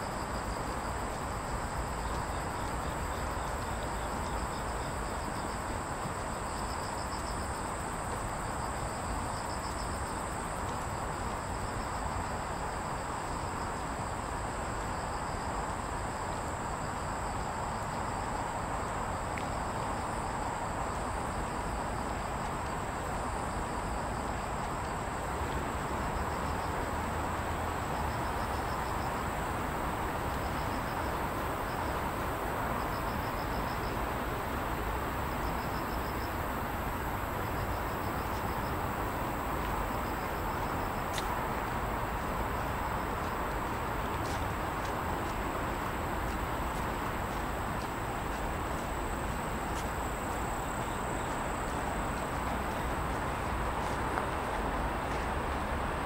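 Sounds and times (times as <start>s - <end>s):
background noise: 0.0s - 56.0s
insects chirping in pulsed trills: 0.0s - 56.0s.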